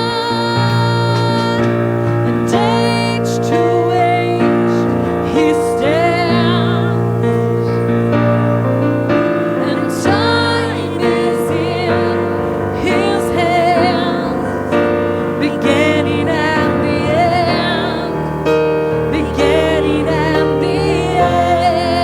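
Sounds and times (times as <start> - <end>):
person singing with vibrato: 0.0 - 22.0
sustained keyboard chords: 0.0 - 22.0.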